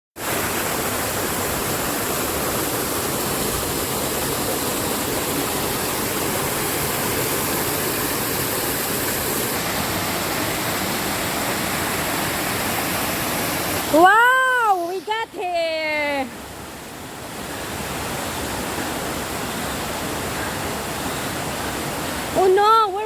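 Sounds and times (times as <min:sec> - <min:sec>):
rushing water: 0:00.2 - 0:23.0.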